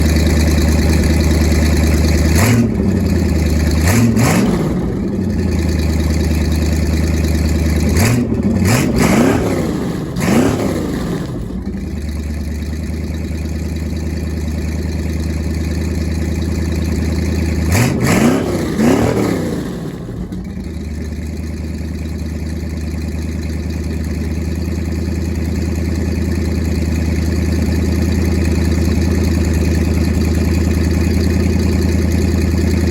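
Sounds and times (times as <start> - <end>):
boat engine idling and revving: 0.0 - 32.9.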